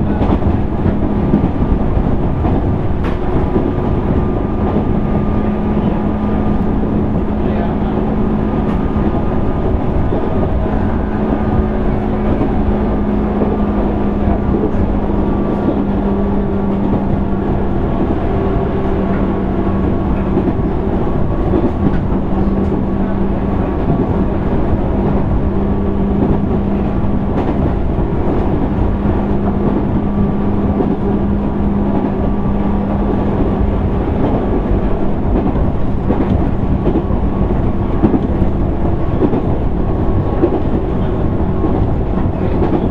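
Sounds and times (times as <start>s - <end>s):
train motor hum: 0.0s - 42.9s
wheels rumbling on rail: 0.0s - 42.9s.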